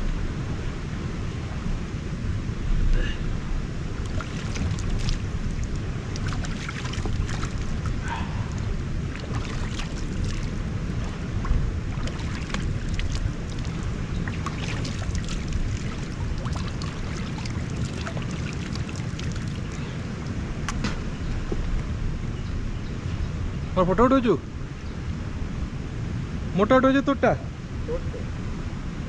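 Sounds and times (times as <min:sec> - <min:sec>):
wind buffeting microphone: 0:00.0 - 0:23.8.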